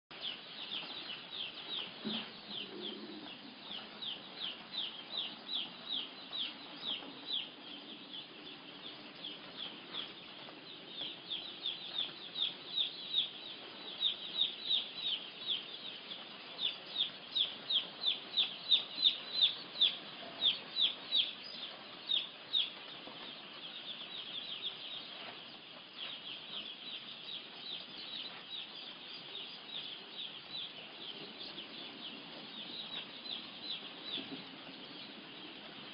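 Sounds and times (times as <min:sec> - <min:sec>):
chicks peeping: 0:00.1 - 0:35.9.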